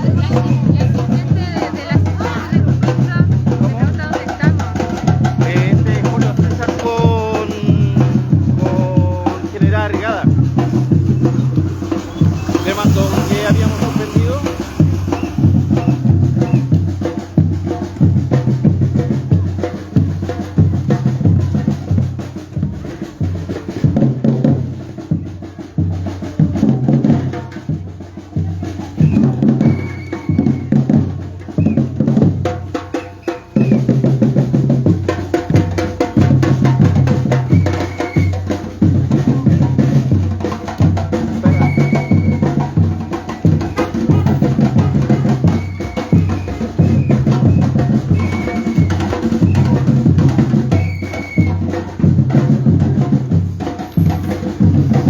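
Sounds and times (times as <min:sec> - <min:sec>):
percussion ensemble drumming: 0:00.0 - 0:55.0.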